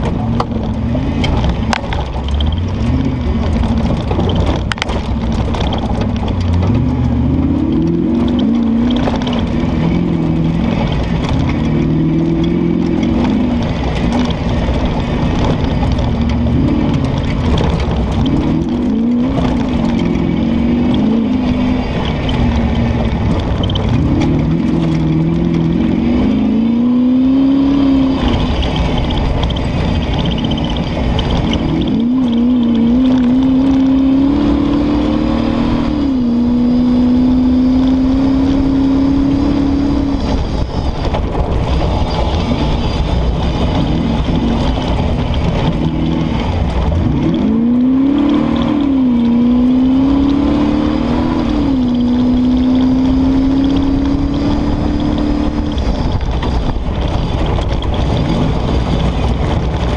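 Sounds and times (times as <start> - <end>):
off-road car engine pulling hard: 0.0 - 59.9.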